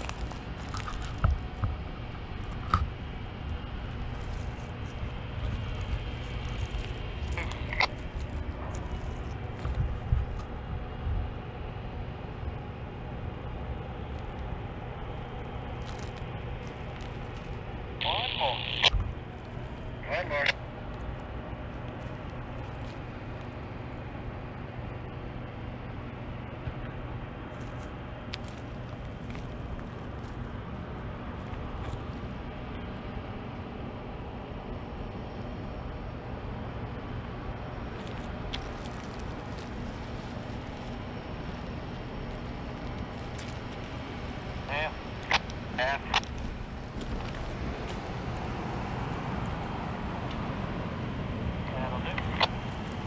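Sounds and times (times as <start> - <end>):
diesel locomotive engines idling: 0.0 - 53.0.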